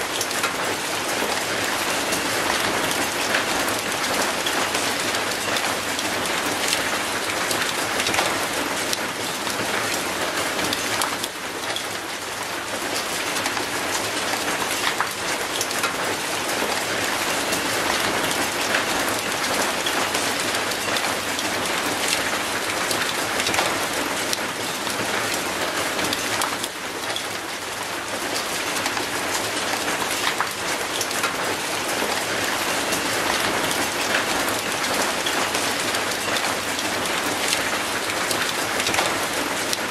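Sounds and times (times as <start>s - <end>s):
rain on concrete and metal gate: 0.0s - 39.9s.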